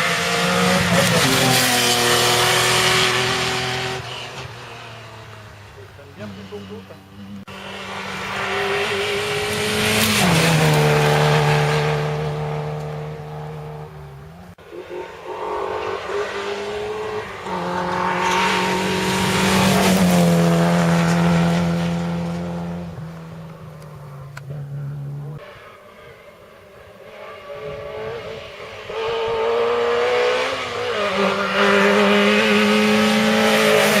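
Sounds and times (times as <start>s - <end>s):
rally cars passing at speed: 0.0s - 34.0s.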